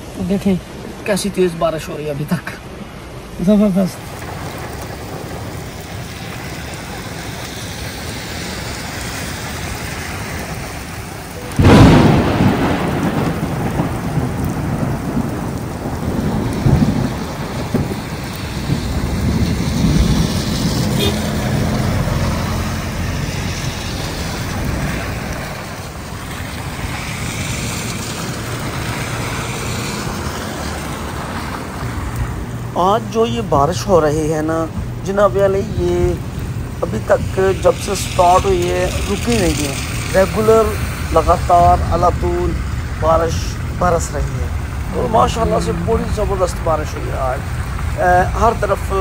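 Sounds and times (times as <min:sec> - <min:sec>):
heavy rain falling: 0:00.0 - 0:49.0
thunder clap rumbling: 0:03.9 - 0:49.0.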